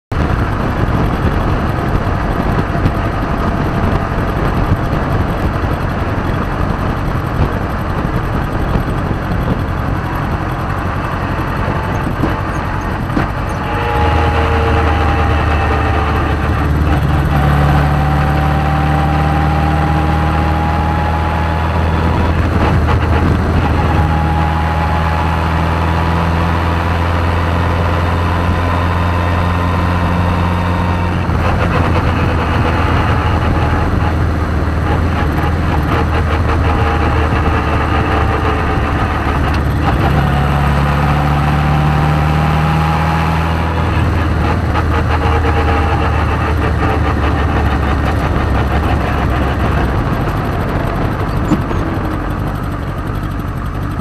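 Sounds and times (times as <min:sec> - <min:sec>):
race car engine running: 0:00.1 - 0:54.0
wind noise: 0:00.1 - 0:54.0.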